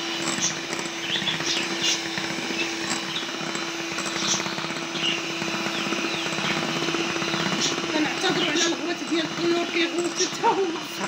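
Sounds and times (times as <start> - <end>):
electric hand mixer whisking batter: 0.0 - 11.0.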